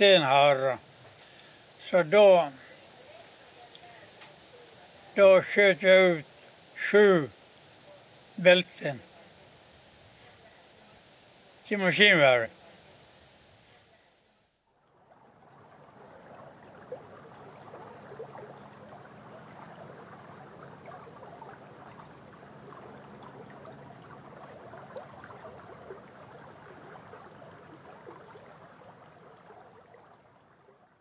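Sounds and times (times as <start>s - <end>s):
babbling stream: 0.0s - 31.0s.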